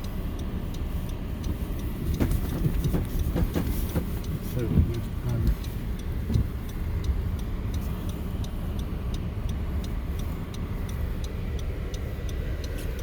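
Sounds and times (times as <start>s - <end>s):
car road and engine rumble: 0.0s - 13.0s
faint high ticks: 0.0s - 13.0s.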